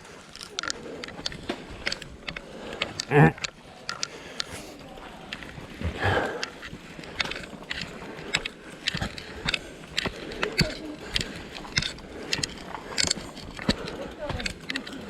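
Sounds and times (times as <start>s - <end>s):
bicycles rattling and clicking: 0.0s - 15.0s.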